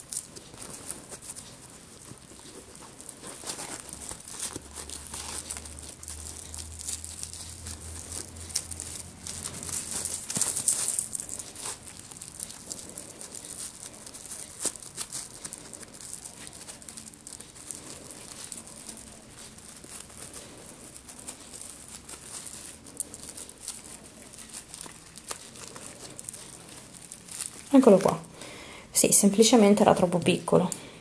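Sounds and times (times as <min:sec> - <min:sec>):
metallic ribbon crinkling: 0:00.0 - 0:30.7.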